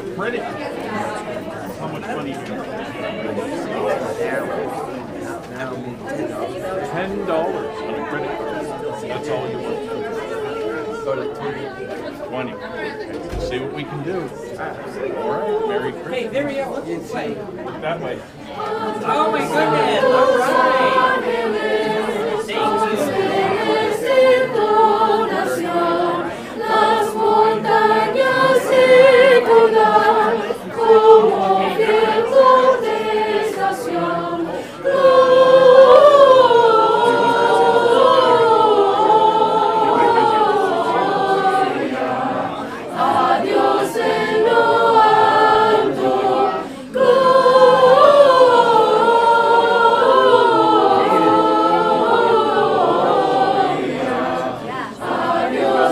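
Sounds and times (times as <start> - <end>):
choir singing unaccompanied: 0.0 - 55.9.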